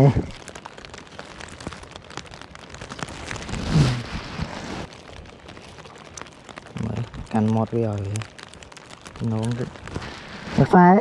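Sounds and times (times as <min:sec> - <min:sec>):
plastic poncho rustling: 0:00.0 - 0:11.0
raindrops ticking on plastic: 0:00.0 - 0:11.0.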